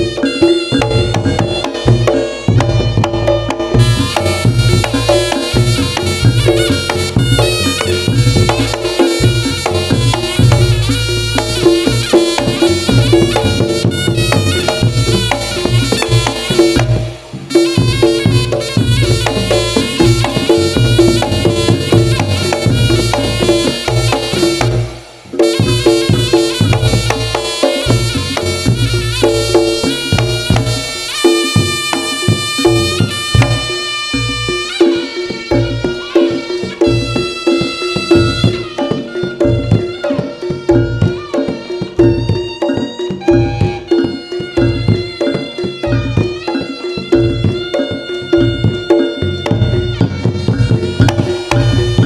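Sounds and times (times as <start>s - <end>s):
drums and gongs: 0.0s - 52.0s
shawm melody: 0.0s - 52.0s.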